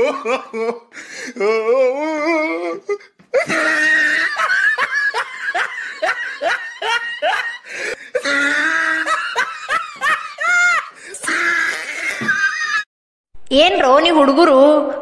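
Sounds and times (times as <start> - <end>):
person laughing: 0.0 - 12.8.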